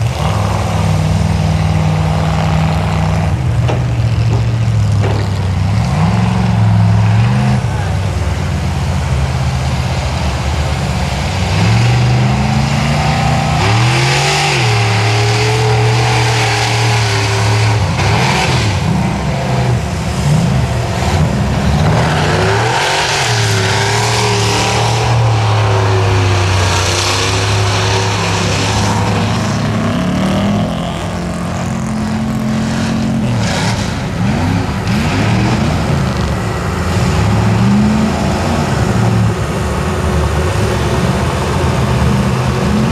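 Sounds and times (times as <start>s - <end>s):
constant rushing noise: 0.0s - 42.9s
truck engine revving: 0.0s - 42.9s.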